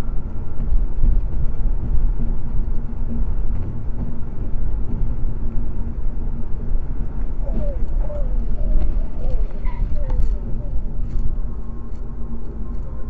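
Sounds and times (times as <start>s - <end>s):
car cruising road noise: 0.0s - 13.0s.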